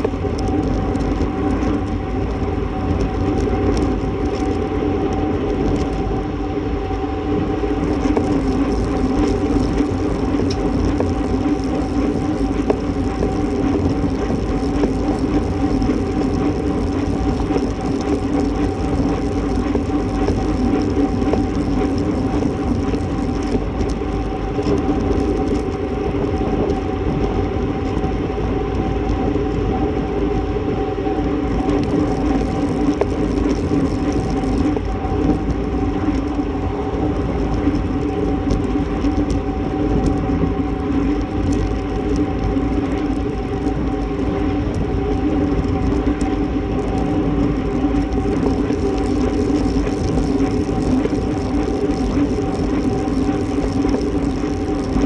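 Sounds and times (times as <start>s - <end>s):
bike tyres on asphalt: 0.0s - 55.0s
constant low hum: 0.0s - 55.0s
wind rush: 0.0s - 55.0s.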